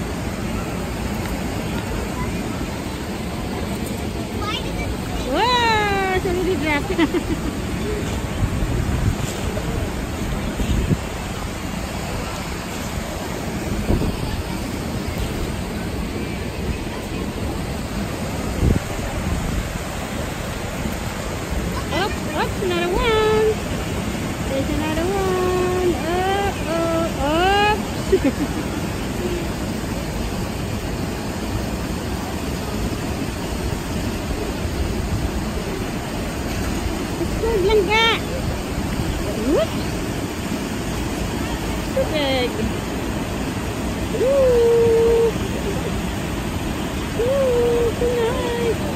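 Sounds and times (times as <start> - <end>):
wind gusting on microphone: 0.0 - 28.6, 29.4 - 48.9
river water pouring over weir: 0.0 - 48.9.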